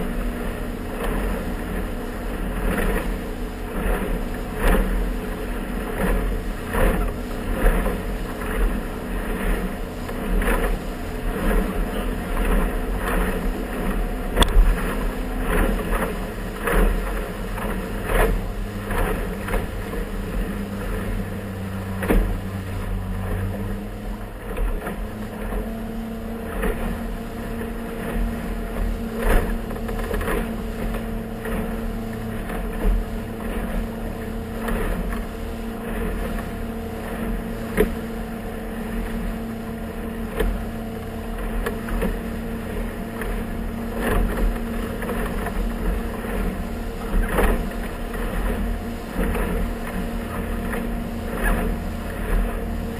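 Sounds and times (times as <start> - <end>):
hull slapping water: 0.0 - 52.9
motorboat engine running: 0.0 - 52.9.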